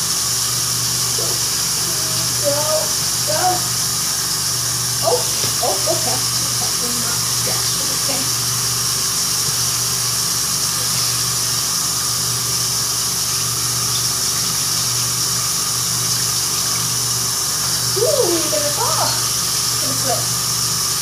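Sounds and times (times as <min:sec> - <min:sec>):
low steady hum: 0:00.0 - 0:21.0
tap water running into sink: 0:00.0 - 0:21.0.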